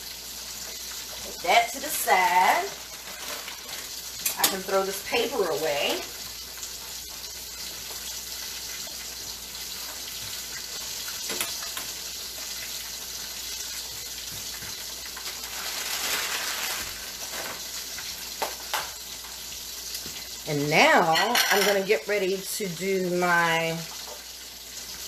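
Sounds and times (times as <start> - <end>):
fish sizzling in hot oil: 0.0 - 25.0.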